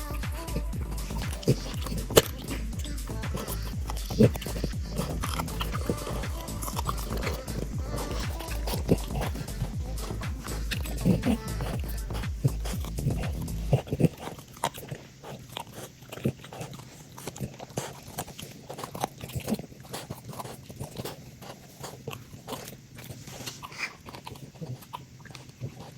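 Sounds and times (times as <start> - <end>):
dog chewing and biting: 0.0 - 25.9.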